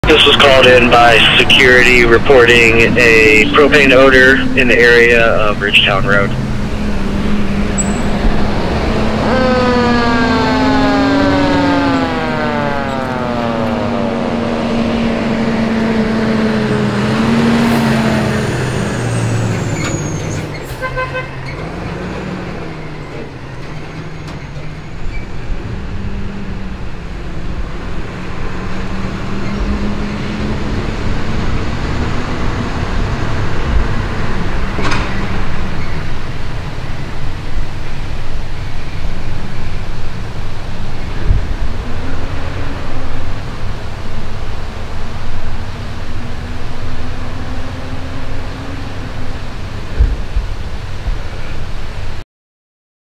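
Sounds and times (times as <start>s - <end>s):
fire engine siren wailing: 0.0s - 51.8s
truck engine drone: 0.0s - 52.2s.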